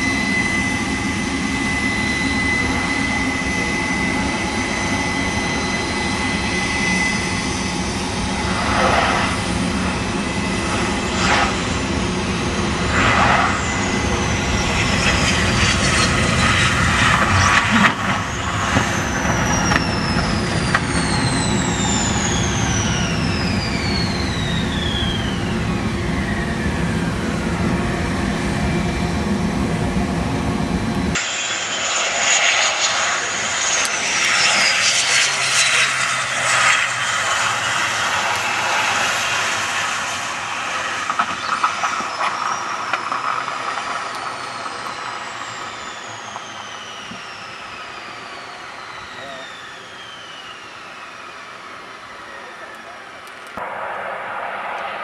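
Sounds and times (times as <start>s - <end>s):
jet roar: 0.0s - 55.0s
jet whine falling in pitch: 0.0s - 55.0s.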